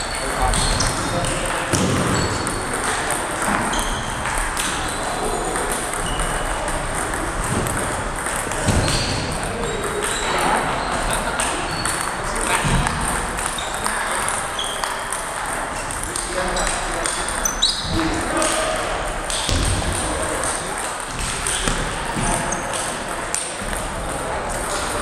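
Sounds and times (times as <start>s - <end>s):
background chatter: 0.0s - 25.0s
table tennis balls clicking: 0.0s - 25.0s.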